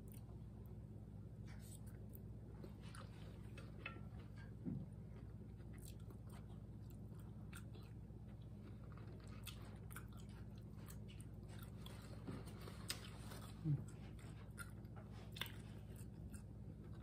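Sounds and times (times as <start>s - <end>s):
person chewing food: 1.4s - 17.0s.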